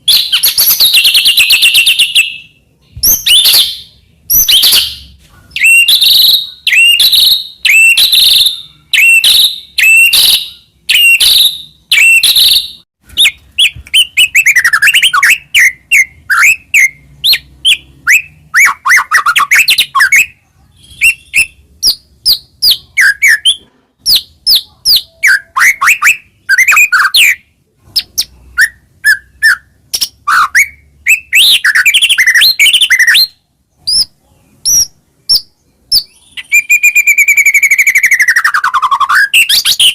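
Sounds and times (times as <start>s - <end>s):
songbird whistling song: 0.0s - 39.9s.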